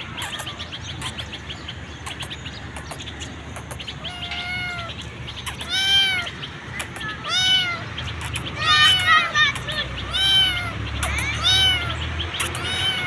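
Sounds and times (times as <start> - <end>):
kitten meowing: 0.0 - 1.3, 3.6 - 13.0
small birds chirping: 0.0 - 13.0.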